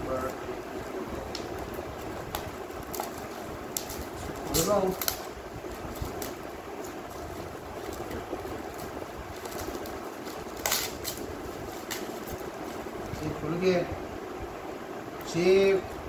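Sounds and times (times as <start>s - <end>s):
low background hum: 0.0s - 16.0s
plastic wrapping crinkling and tearing: 0.1s - 13.3s.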